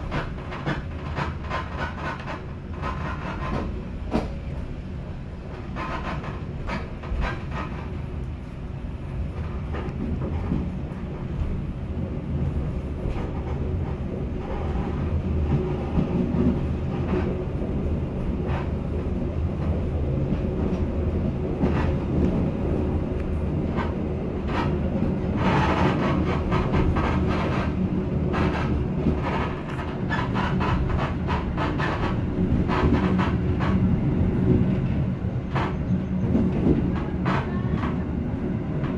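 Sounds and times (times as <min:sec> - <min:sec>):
train rumble and hum: 0:00.0 - 0:38.9
train wheels clicking: 0:00.0 - 0:38.9.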